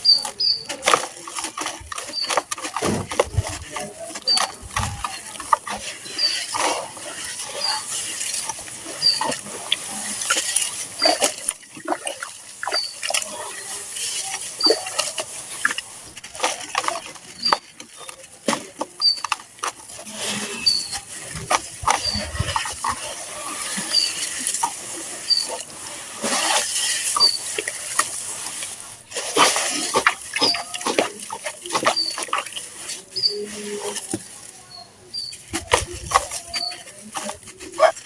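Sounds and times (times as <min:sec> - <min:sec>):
wet crunching and crackling: 0:00.0 - 0:38.0.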